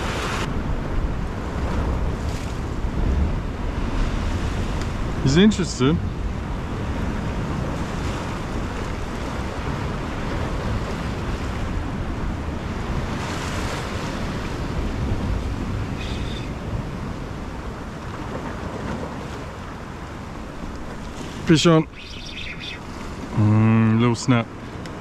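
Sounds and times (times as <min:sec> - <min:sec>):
sea swell washing against rocks: 0:00.0 - 0:23.4
wind on microphone: 0:00.0 - 0:25.0.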